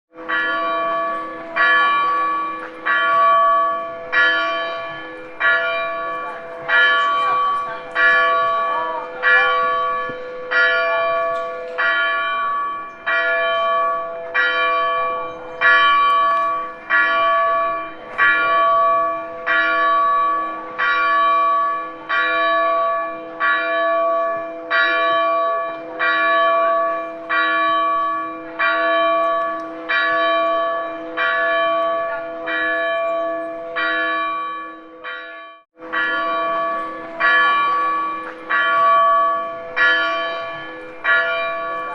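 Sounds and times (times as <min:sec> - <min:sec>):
church bell tolling: 0:00.1 - 0:41.9.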